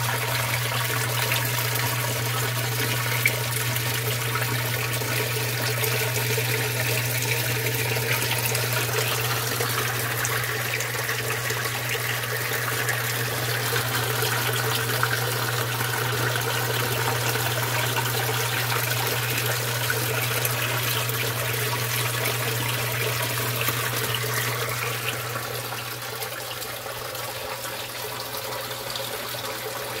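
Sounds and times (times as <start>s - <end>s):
steady low hum: 0.0s - 26.3s
water pouring and splashing: 0.0s - 30.0s.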